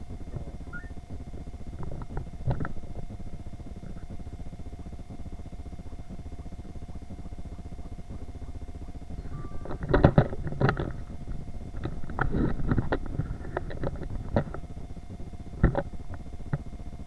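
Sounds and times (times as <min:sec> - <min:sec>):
low rumble with faint hum: 0:00.0 - 0:17.0.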